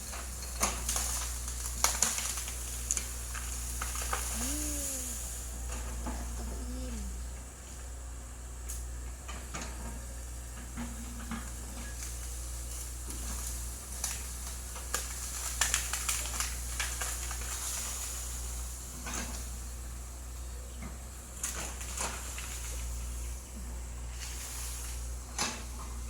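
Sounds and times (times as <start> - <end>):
crackling hissing noise: 0.0 - 9.0, 10.7 - 26.0
excavator engine hum: 0.0 - 26.0.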